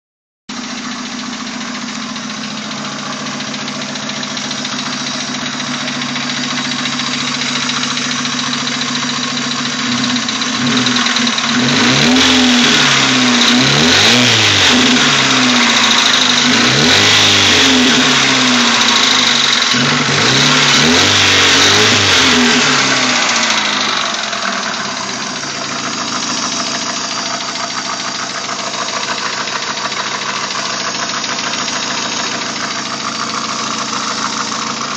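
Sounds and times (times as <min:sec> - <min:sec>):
car engine revving and idling: 0:00.5 - 0:34.9
engine lifters knocking: 0:00.8 - 0:17.2, 0:22.7 - 0:34.9.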